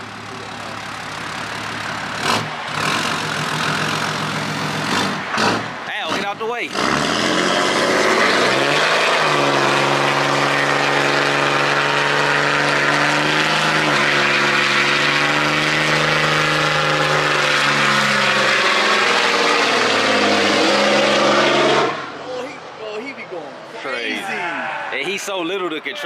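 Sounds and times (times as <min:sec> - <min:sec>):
pickup engine revving: 0:00.0 - 0:22.2.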